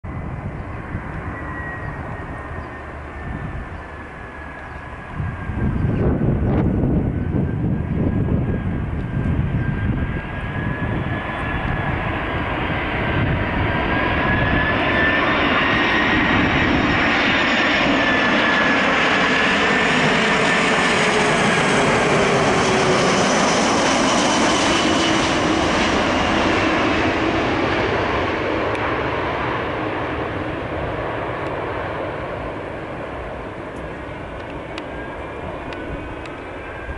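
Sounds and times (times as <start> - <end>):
jet airliner passing: 0.1 - 36.9.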